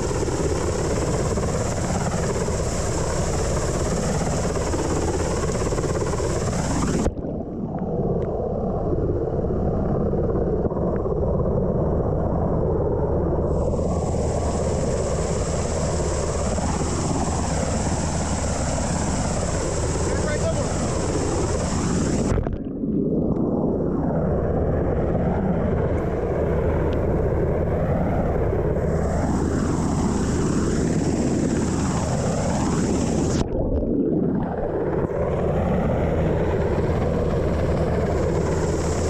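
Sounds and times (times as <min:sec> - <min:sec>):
helicopter rotor and turbine noise: 0:00.0 - 0:39.0.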